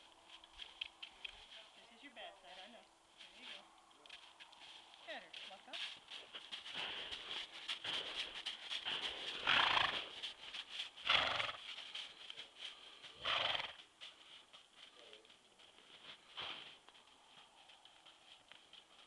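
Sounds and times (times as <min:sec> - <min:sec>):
hooves stepping in snow: 0:00.0 - 0:19.0.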